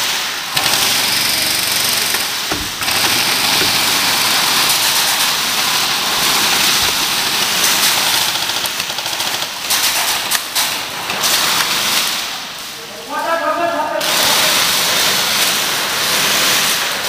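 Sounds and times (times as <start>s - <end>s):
airsoft guns firing on full auto: 0.0s - 12.2s, 14.0s - 17.0s.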